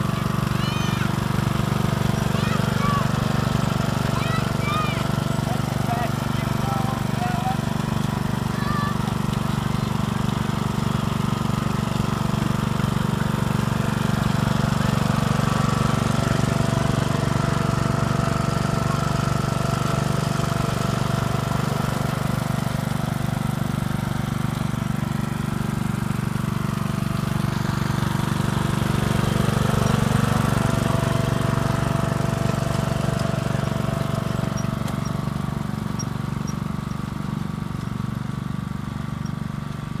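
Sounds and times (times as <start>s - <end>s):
riding lawnmower engine running: 0.0s - 40.0s.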